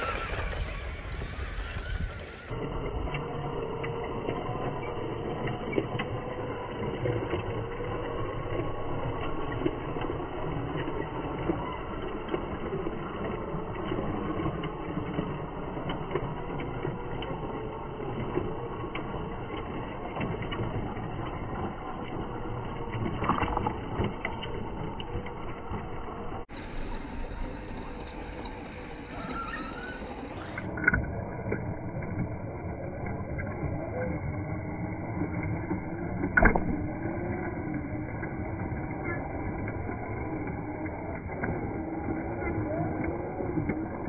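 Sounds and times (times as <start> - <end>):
small electric motor whining: 0.0 - 44.0.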